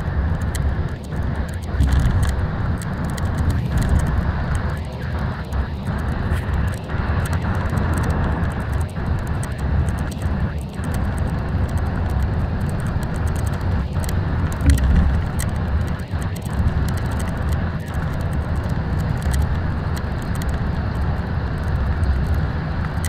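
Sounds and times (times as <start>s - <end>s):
engine and tyre rumble: 0.0s - 23.0s
faint clicks: 0.0s - 23.0s.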